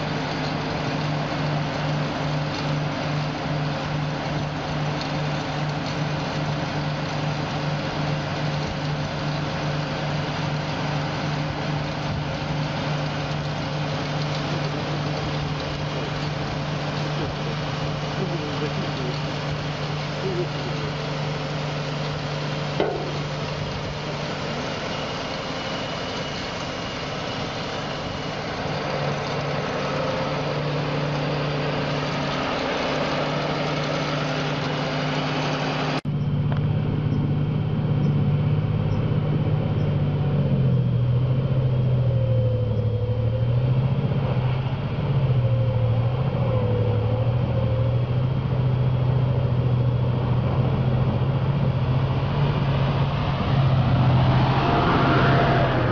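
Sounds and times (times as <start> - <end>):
engines humming: 0.0 - 55.9
louder engine with dipping pitch: 0.0 - 55.9.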